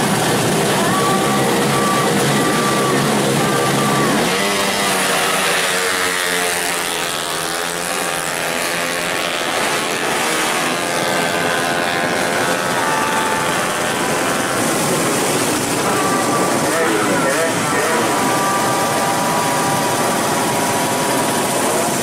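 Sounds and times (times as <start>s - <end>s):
motorcycle engines revving hard: 0.0s - 22.0s.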